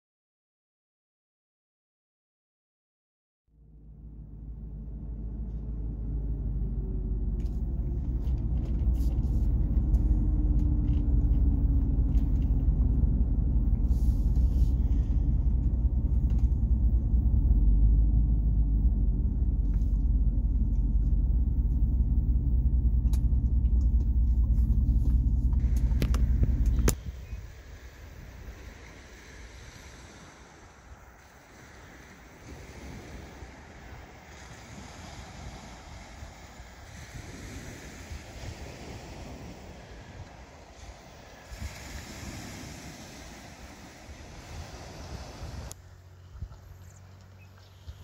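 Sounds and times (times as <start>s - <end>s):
car cabin engine and road rumble: 3.6s - 48.0s.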